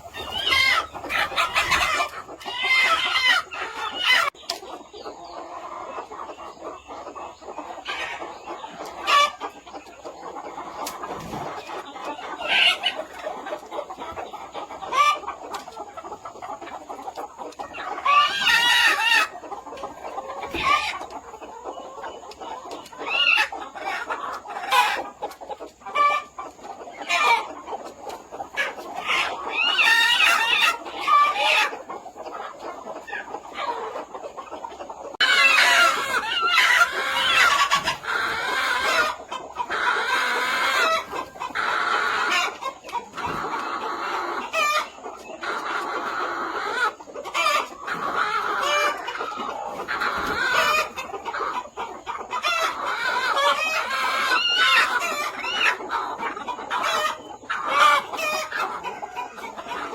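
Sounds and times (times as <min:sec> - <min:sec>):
chickens clucking: 0:00.0 - 0:59.9
drawn-out chicken calls: 0:00.0 - 0:59.9.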